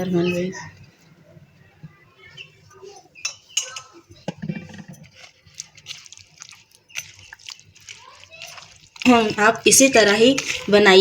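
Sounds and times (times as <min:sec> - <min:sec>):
wet squishes of hand mixing: 0:00.2 - 0:11.0.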